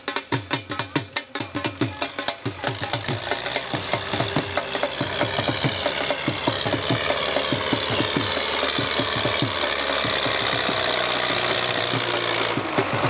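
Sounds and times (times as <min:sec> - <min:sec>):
diesel tractor engine chugging: 0:00.0 - 0:13.0.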